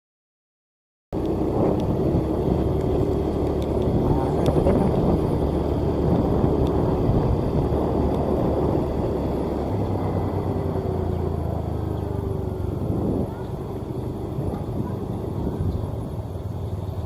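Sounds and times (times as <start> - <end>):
combine harvester engine running: 1.2 - 17.0.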